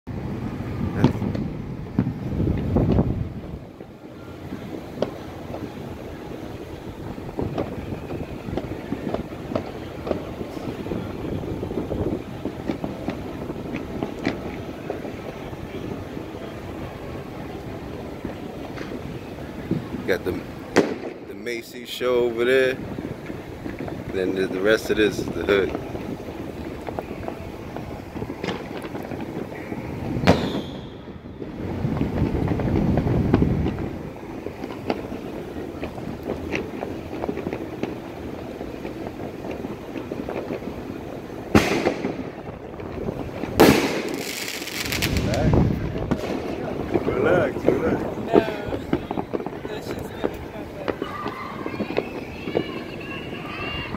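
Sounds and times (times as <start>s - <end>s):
fireworks popping and banging: 0.1s - 53.9s.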